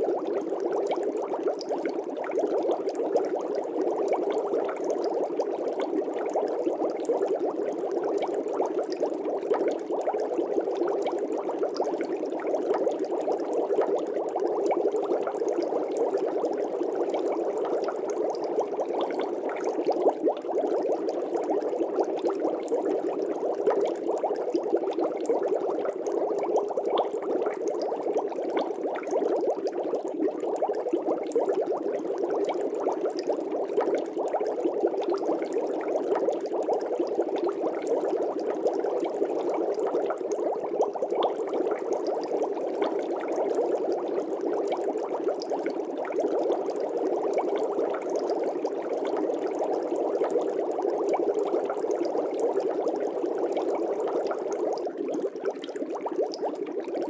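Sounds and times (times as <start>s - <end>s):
aquarium water bubbling: 0.0s - 57.0s.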